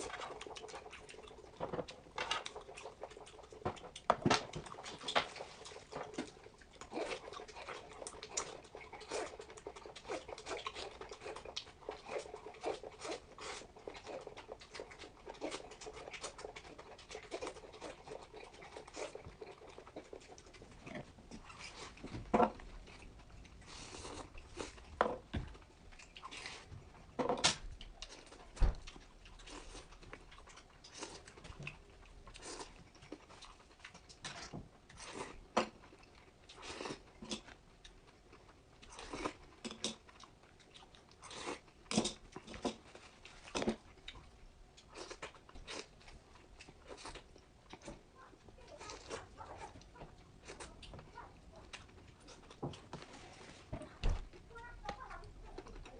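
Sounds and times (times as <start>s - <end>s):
wet chewing and smacking: 0.0s - 55.9s.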